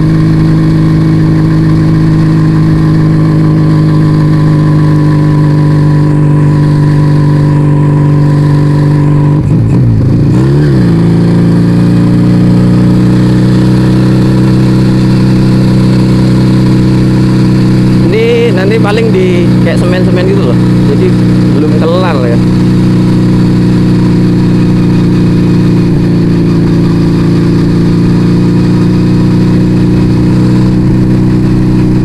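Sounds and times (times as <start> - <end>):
motorcycle cruising: 0.0 - 32.0.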